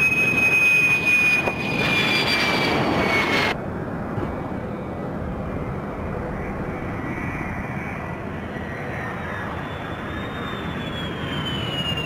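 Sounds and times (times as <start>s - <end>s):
jet engine rush and whine: 0.0s - 12.0s.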